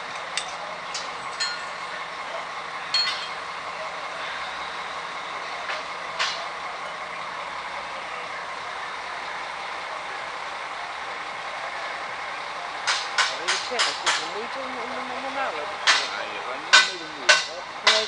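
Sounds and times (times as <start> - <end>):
crane diesel engine running: 0.0 - 18.0.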